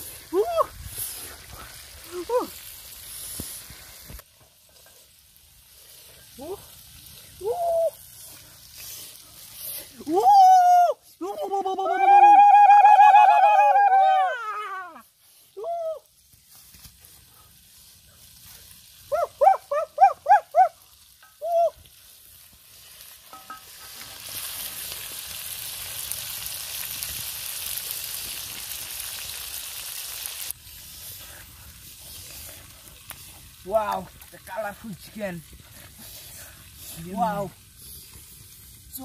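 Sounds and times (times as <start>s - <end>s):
chicken sizzling in hot oil: 0.0s - 10.6s, 15.5s - 39.0s.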